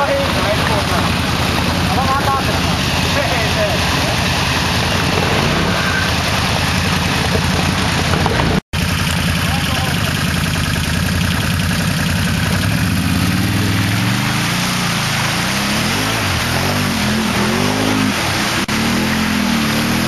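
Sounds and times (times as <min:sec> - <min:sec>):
atv engine revving: 0:00.0 - 0:20.0
tyres spinning and splashing: 0:00.0 - 0:20.0.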